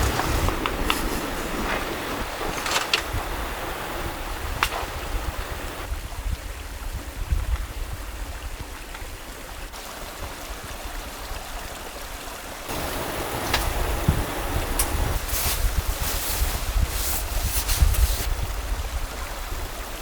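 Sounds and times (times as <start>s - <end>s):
wind rumble on microphone: 0.0s - 11.8s, 12.7s - 20.0s
mountain stream flowing: 0.0s - 20.0s.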